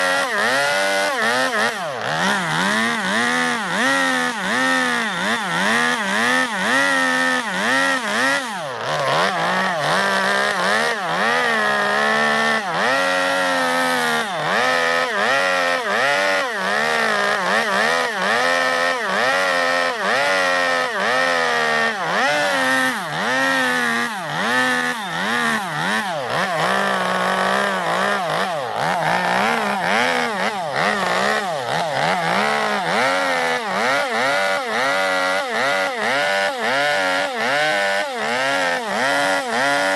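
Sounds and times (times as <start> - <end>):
chainsaw carving wood: 0.0 - 39.9.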